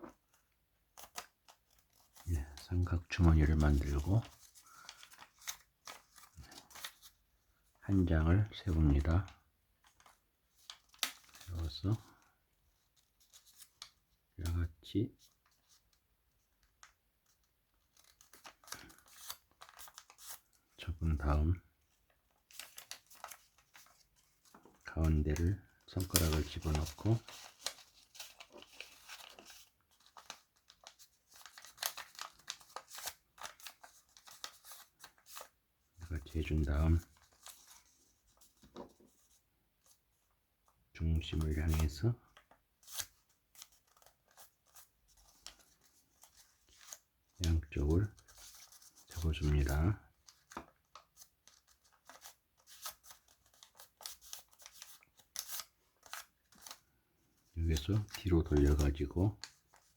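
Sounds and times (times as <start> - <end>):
paper crinkling and rustling: 0.0 - 14.2, 15.2 - 40.2, 41.2 - 59.9.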